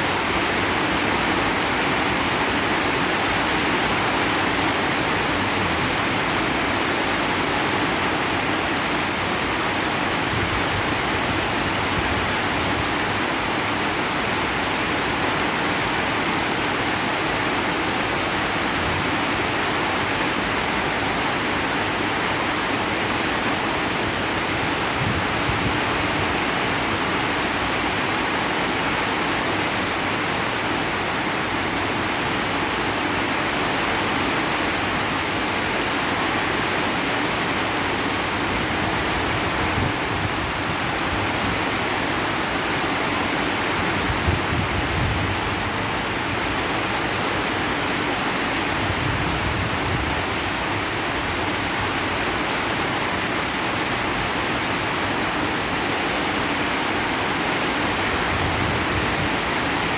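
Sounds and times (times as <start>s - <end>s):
heavy rain on metal roof: 0.0s - 59.9s.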